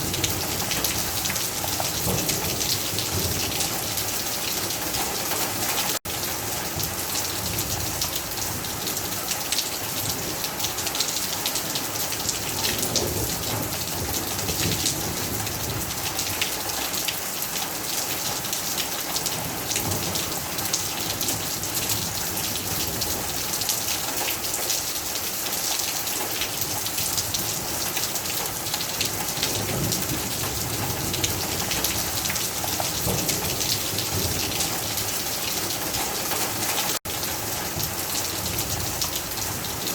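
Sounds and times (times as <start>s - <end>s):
heavy rain on a surface: 0.0s - 39.9s.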